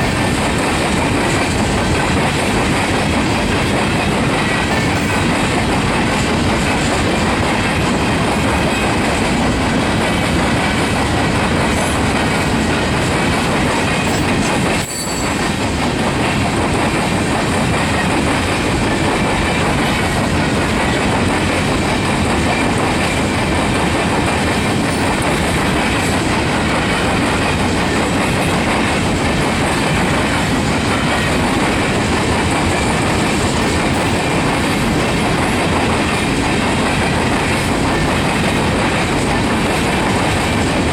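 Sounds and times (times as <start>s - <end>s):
train wheels clattering: 0.0s - 40.9s.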